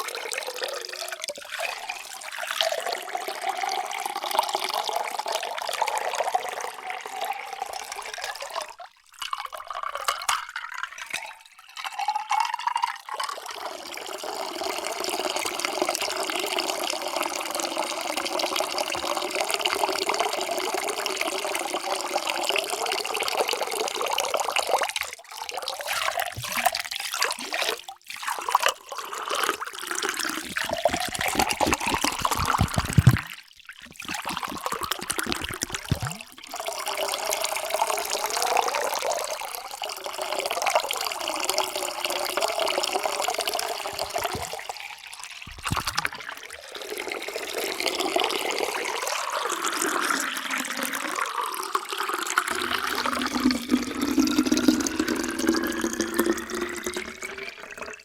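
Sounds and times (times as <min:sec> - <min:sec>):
water pouring into a container: 0:00.0 - 0:58.0.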